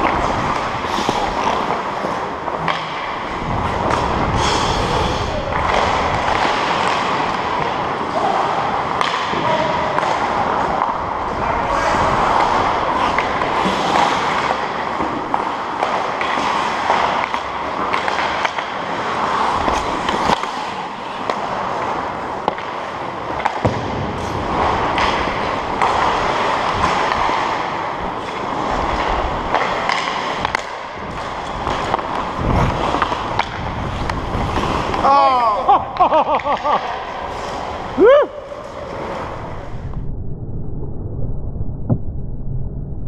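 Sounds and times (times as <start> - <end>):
hockey sticks and puck clicking: 0.0 - 4.2, 5.4 - 11.3, 12.3 - 39.1
skate blades scraping on ice: 0.0 - 9.2, 10.0 - 38.0.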